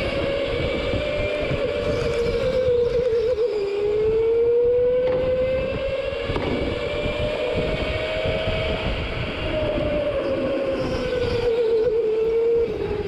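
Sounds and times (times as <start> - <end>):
go-kart engine accelerating: 0.0 - 13.0
rumble of track and chassis: 0.0 - 13.0.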